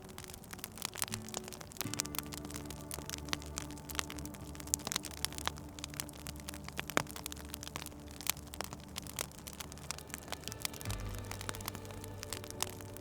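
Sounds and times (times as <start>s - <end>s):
low steady hum: 0.0s - 13.0s
wood fire crackling and popping: 0.0s - 13.0s.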